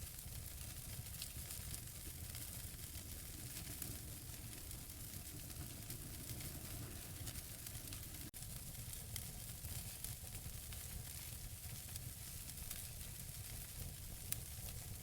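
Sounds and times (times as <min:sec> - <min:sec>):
sharp pops of fire: 0:00.0 - 0:14.9
wood logs crackling in fireplace: 0:00.0 - 0:15.0.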